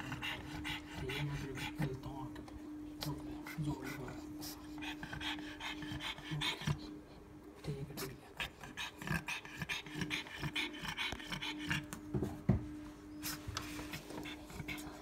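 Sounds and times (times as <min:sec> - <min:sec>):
dog panting rapidly: 0:00.0 - 0:02.2, 0:03.0 - 0:07.0, 0:07.9 - 0:12.0, 0:13.2 - 0:15.0
steady low hum: 0:00.0 - 0:15.0.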